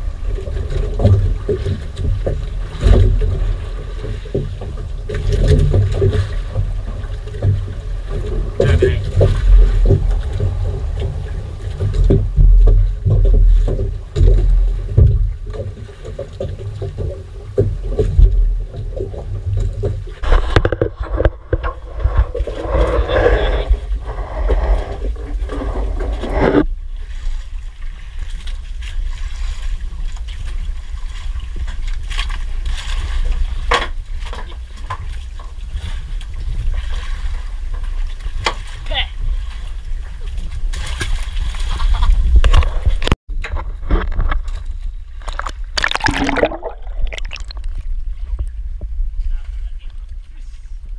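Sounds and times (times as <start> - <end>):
wind and water rumble: 0.0 - 50.9.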